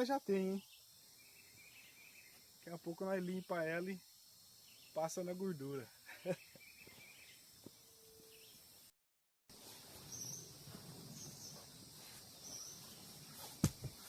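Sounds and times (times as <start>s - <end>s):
forest ambience: 0.0s - 8.9s, 9.5s - 14.0s.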